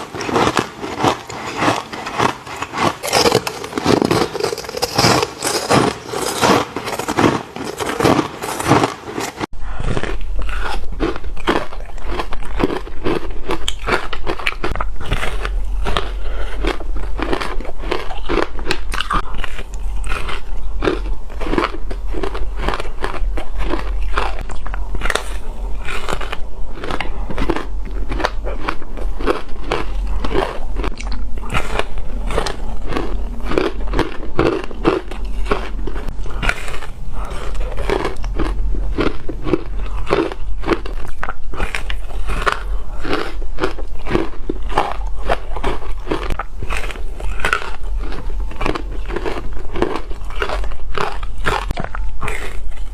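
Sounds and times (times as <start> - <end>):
ice crunching in bites: 0.0 - 52.8
low hum: 0.0 - 52.9.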